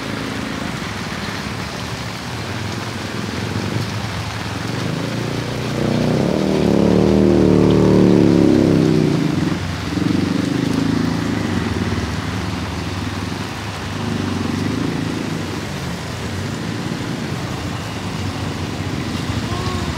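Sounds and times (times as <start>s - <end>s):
passing vehicle engines: 0.0s - 19.9s
rain on a wet street: 0.0s - 19.9s.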